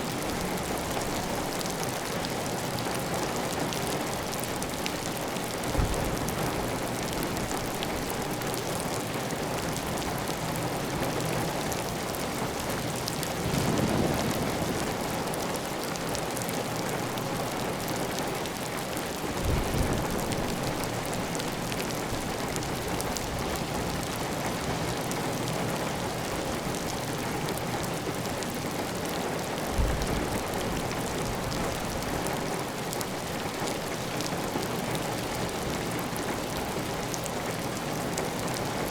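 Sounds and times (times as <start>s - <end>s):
heavy rain on a tile roof: 0.0s - 38.9s.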